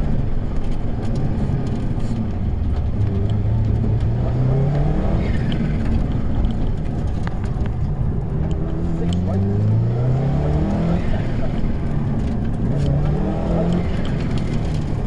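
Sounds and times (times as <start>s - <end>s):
rally car engine revving: 0.0s - 15.0s
road and tyre noise: 0.0s - 15.0s.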